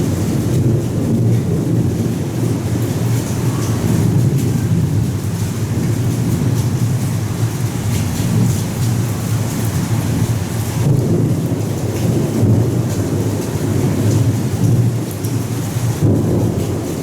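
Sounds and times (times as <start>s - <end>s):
thunder rumbling: 0.0s - 17.0s
torrential rain hissing: 0.0s - 17.0s.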